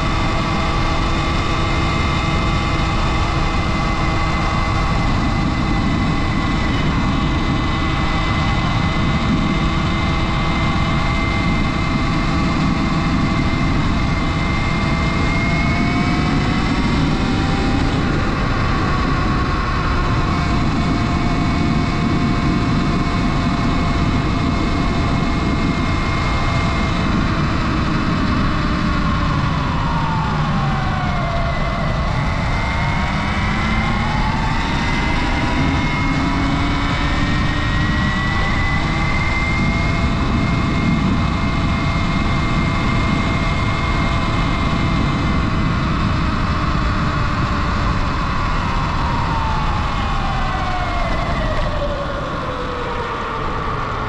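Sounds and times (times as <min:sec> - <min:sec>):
electric motor whine: 0:00.0 - 0:54.0.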